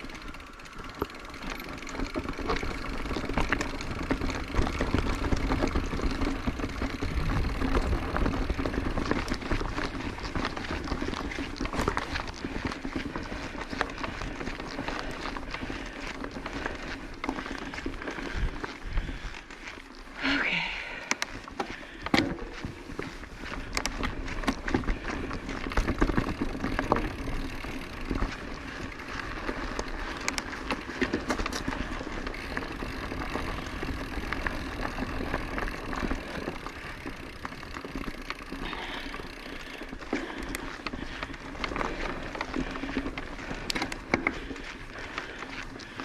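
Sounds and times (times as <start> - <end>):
bike rolling on dirt trail: 0.0 - 46.0
bike knocks and rattles: 0.7 - 19.4, 21.2 - 46.0.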